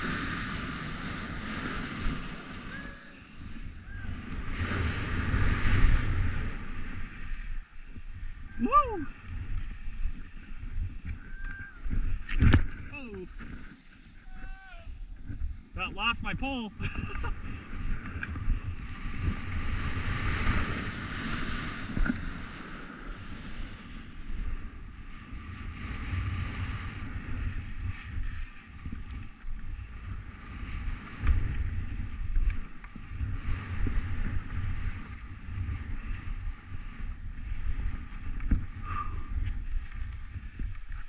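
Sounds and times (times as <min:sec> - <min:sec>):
skis scraping through snow: 0:00.0 - 0:08.5, 0:09.2 - 0:11.2, 0:16.9 - 0:41.0
wind buffeting microphone: 0:00.0 - 0:41.0.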